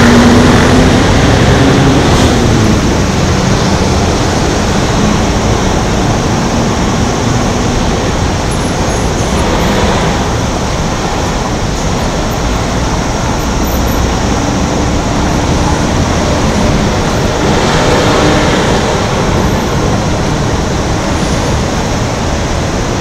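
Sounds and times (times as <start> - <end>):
cars and buses passing: 0.0 - 23.0
low engine hum: 0.0 - 23.0.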